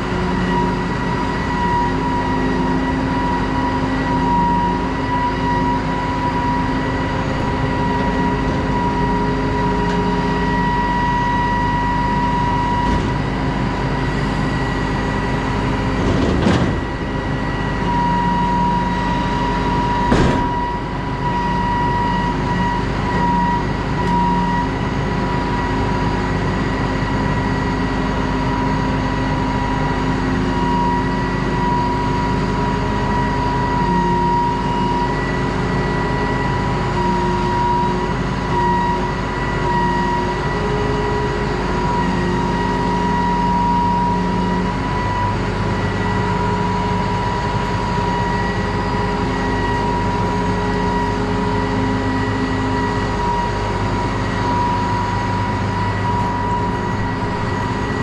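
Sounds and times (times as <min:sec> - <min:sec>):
farm machine engine running: 0:00.0 - 0:58.0
high-pitched machine whine: 0:00.0 - 0:58.0.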